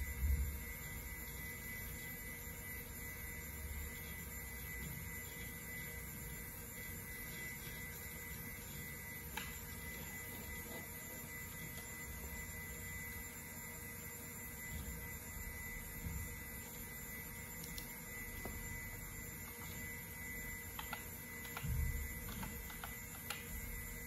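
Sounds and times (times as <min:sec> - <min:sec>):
computer hum: 0:00.0 - 0:24.0.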